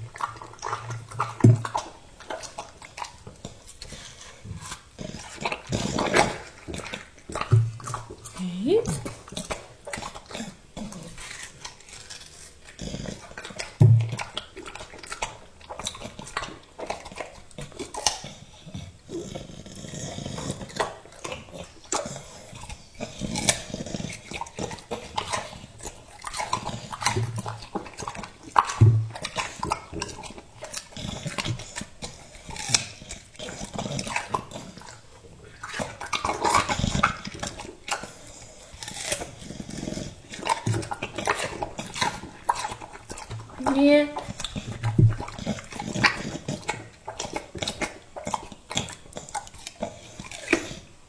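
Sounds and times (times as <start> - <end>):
dog chewing and slurping: 0.0 - 51.0.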